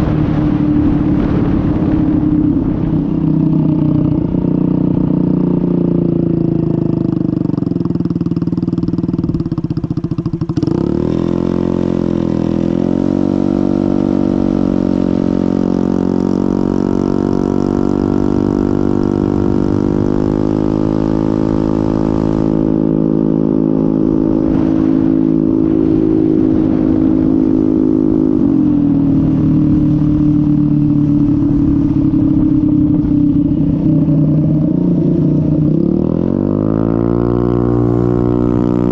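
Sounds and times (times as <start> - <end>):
wind rush: 0.0 - 5.7, 10.5 - 38.9
scooter engine running: 0.0 - 38.9.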